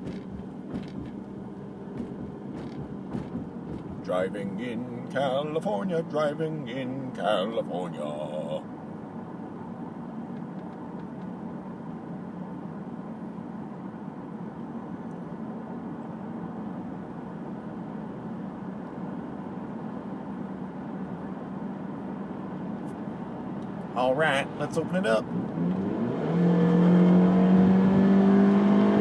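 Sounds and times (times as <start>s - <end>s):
car cabin engine and road hum: 0.0s - 29.0s.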